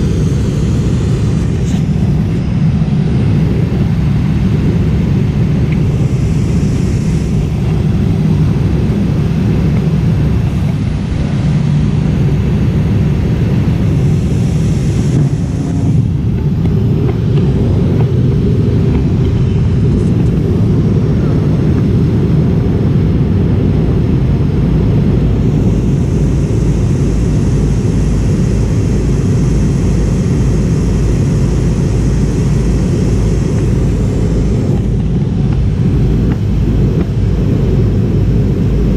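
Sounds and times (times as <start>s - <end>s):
airliner cabin roar: 0.0s - 38.9s.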